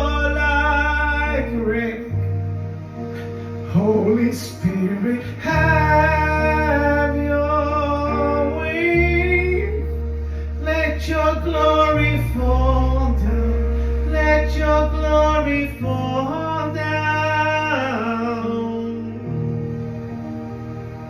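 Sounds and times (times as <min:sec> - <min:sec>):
bass and chords: 0:00.0 - 0:21.0.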